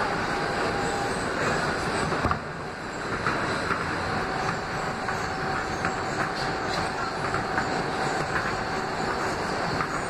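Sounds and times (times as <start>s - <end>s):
subway train wheels rumbling: 0.0s - 10.0s.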